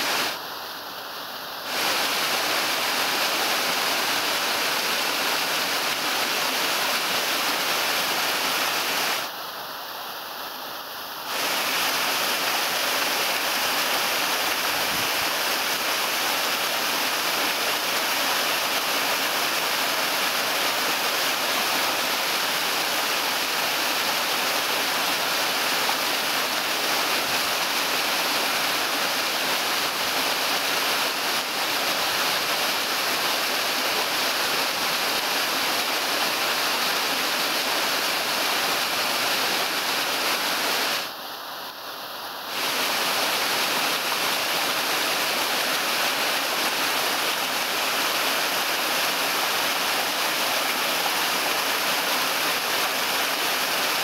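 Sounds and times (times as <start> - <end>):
waterfall splashing onto rocks: 0.0 - 9.3, 11.3 - 41.2, 42.4 - 54.0.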